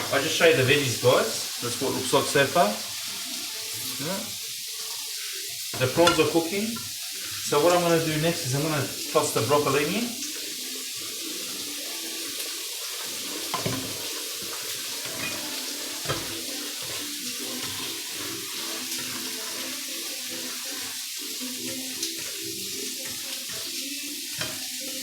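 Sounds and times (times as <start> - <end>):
prawns sizzling in frying pan: 0.0 - 25.0.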